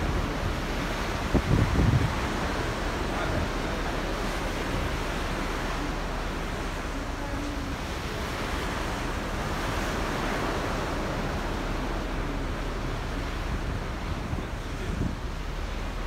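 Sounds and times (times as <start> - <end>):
rush of open sea: 0.0 - 16.0
wind buffeting microphone: 0.0 - 16.0.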